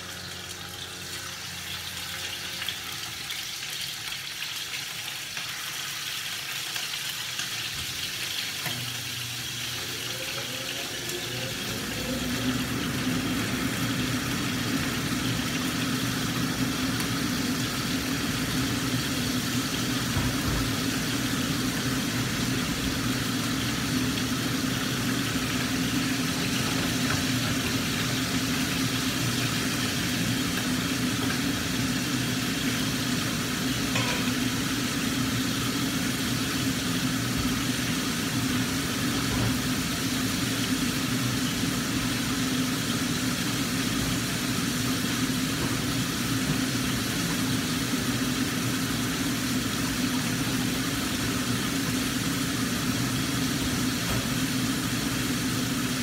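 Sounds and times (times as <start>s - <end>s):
fish sizzling in a wok: 0.0s - 56.0s
exhaust fan humming: 7.3s - 56.0s.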